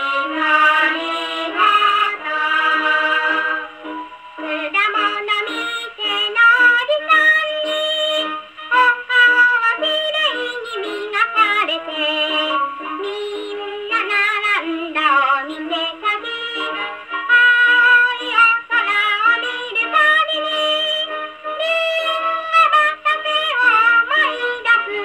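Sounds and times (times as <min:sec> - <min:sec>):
gramophone playing a song with band: 0:00.0 - 0:25.0.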